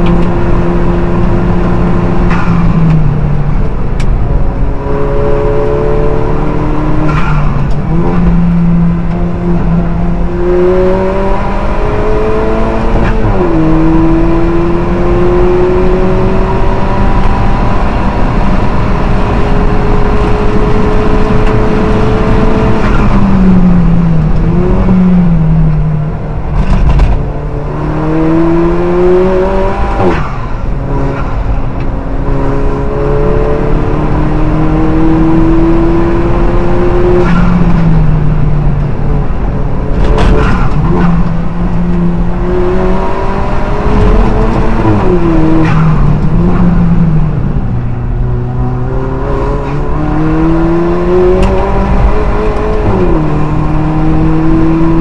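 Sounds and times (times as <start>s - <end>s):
race car engine at full throttle: 0.0s - 55.0s.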